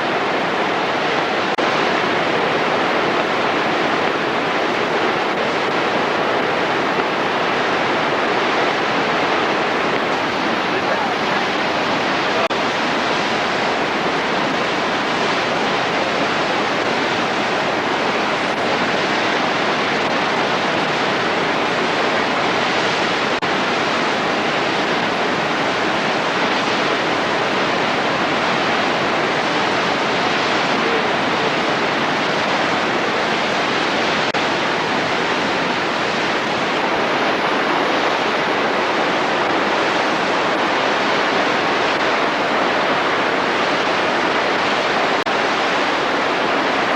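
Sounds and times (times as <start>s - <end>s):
rushing waterfall: 0.0s - 46.9s.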